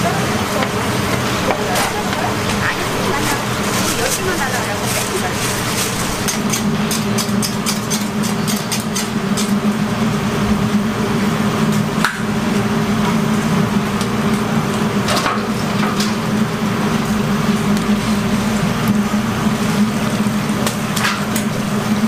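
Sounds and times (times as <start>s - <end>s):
deep fryer hissing: 0.0s - 22.0s
low mechanical hum: 0.0s - 22.0s.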